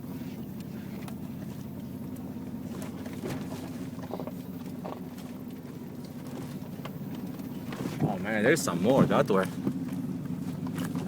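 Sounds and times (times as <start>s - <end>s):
engine and road drone: 0.0s - 11.0s.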